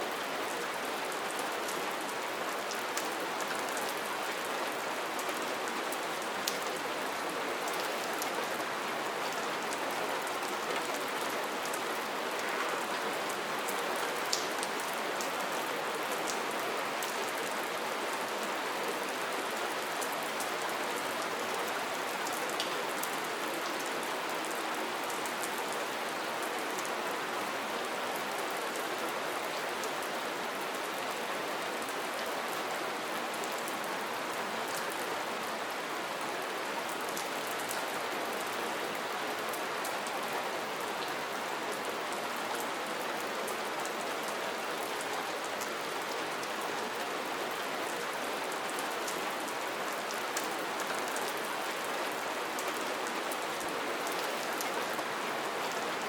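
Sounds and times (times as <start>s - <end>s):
rain pattering: 0.1s - 27.6s, 32.6s - 56.0s.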